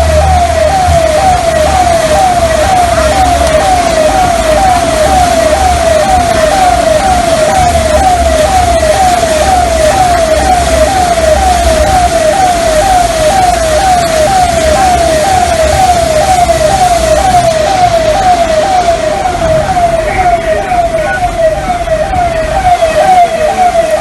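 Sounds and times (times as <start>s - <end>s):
siren sweeping down: 0.0s - 24.0s.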